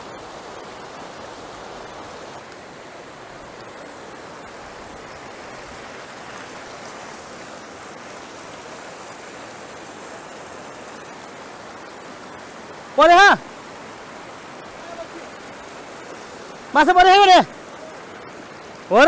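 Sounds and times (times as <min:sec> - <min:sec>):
river rushing over boulders: 0:00.0 - 0:19.0.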